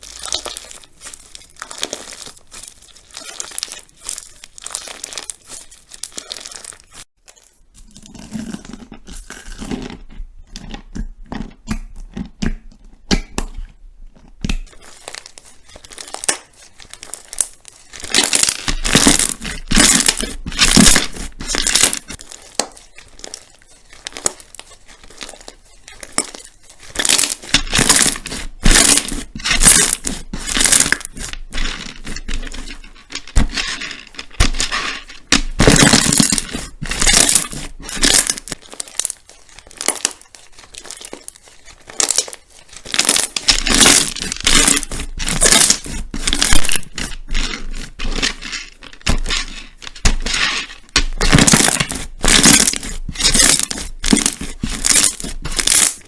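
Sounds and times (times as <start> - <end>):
slime squeezed by hand: 0.0 - 10.1, 14.4 - 56.0.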